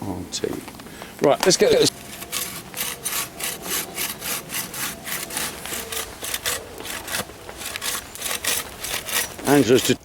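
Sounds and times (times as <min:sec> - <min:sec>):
hand saw cutting wood: 0:01.6 - 0:10.0.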